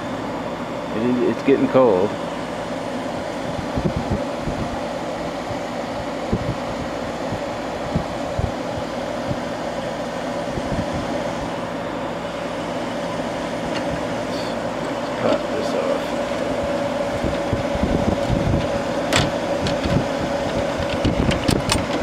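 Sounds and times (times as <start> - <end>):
air conditioner fan rushing: 0.0 - 22.0
compressor humming: 0.0 - 22.0.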